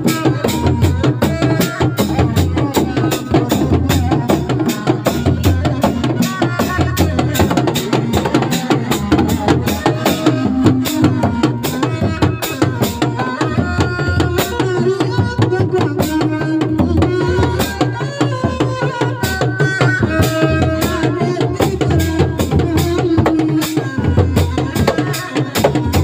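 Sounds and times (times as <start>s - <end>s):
drums beating rapid rhythm: 0.0s - 26.0s
held melody line: 0.0s - 26.0s.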